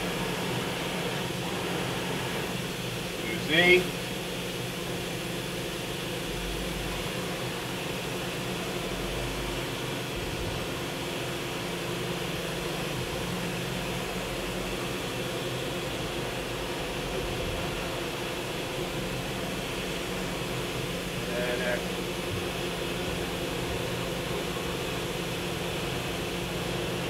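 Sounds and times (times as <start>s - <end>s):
machine steady mechanical hum: 0.0s - 27.0s.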